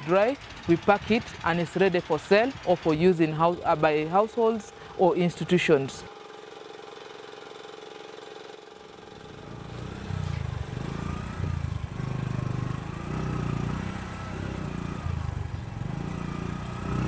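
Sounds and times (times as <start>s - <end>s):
vehicle engine rumbling: 0.0s - 6.1s, 8.8s - 17.0s.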